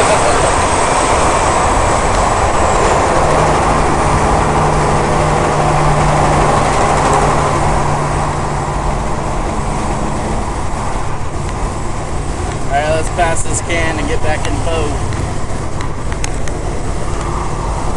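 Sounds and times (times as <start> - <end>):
highway driving noise: 0.0 - 17.9
truck engine drone: 0.0 - 17.9.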